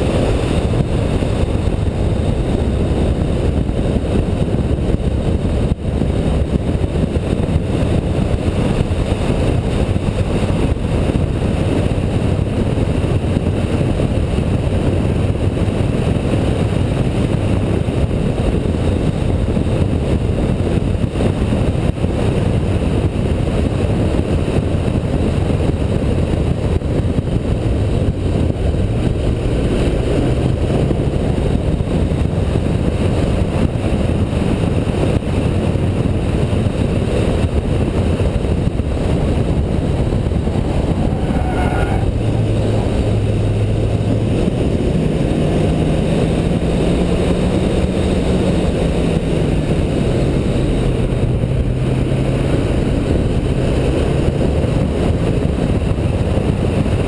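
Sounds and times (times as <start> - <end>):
car engine running hard: 0.0 - 57.0
wind and road noise: 0.0 - 57.0.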